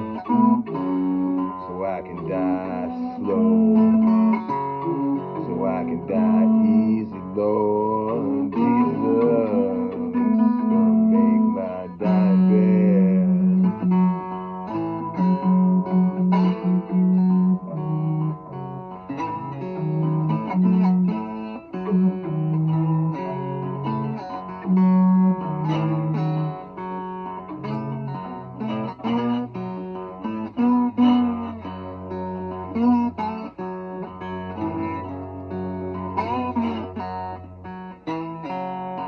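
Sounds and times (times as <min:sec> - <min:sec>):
slide guitar blues: 0:00.0 - 0:39.0.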